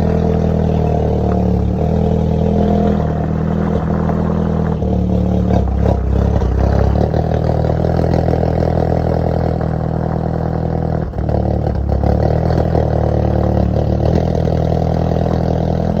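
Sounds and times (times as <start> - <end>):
car petrol engine running: 0.0 - 16.0.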